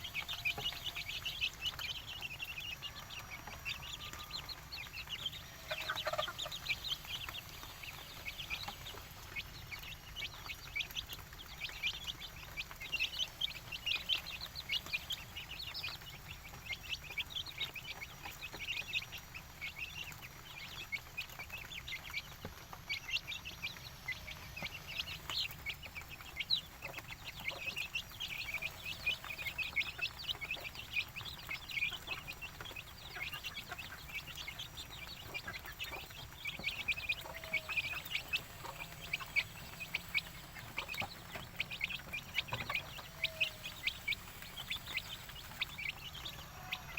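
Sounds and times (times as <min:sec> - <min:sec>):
chickens calling: 0:00.0 - 0:46.9.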